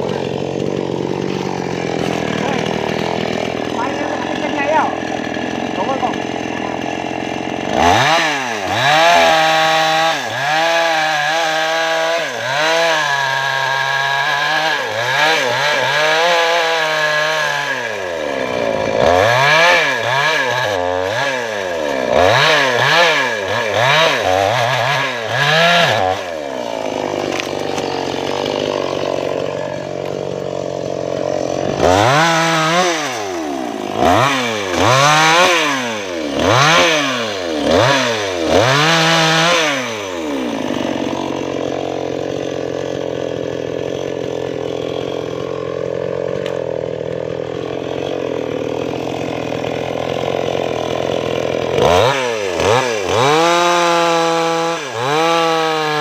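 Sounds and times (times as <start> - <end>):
chainsaw revving cutting wood: 0.0 - 56.0.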